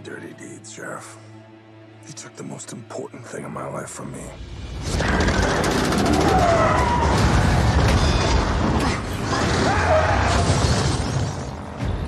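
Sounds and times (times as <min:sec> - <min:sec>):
film music: 0:00.0 - 0:12.0.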